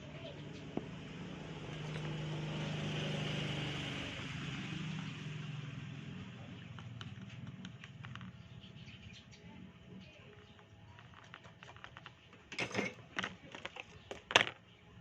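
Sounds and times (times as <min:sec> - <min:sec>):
engine hum: 0:00.0 - 0:14.6.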